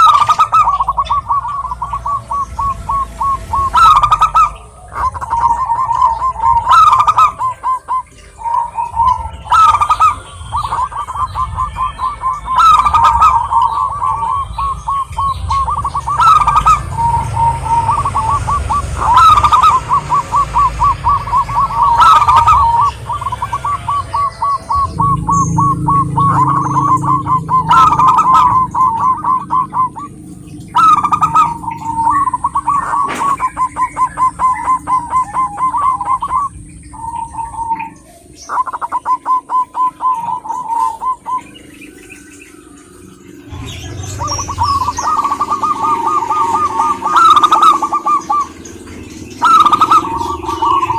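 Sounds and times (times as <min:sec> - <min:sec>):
dove cooing in rolling trills: 0:00.0 - 0:50.9.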